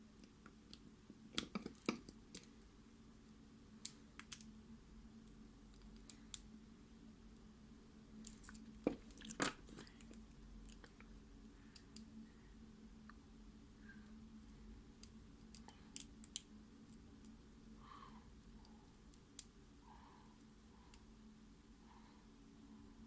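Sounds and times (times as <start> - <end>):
low hum: 2.4 - 23.0.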